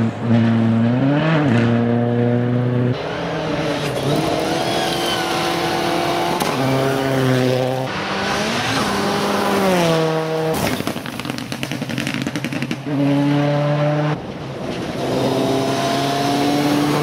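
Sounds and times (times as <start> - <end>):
rally car engine revving: 0.0 - 10.6, 12.1 - 17.0.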